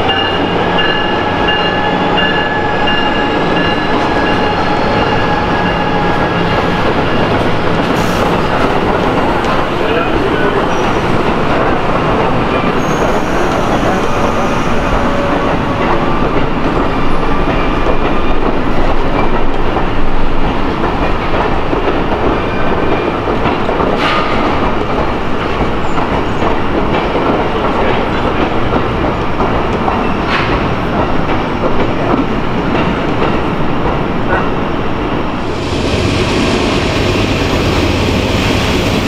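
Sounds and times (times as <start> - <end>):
steel wheels on rail: 0.0 - 39.0.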